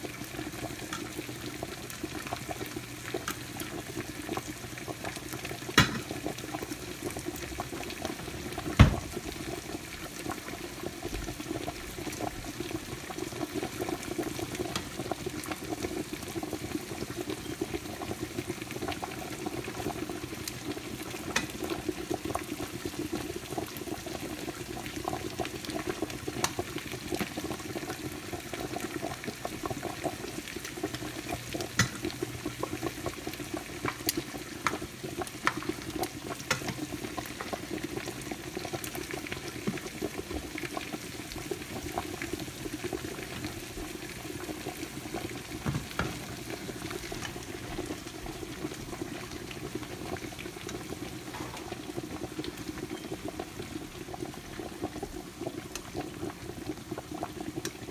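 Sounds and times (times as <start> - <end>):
pans simmering and sizzling: 0.0 - 57.9.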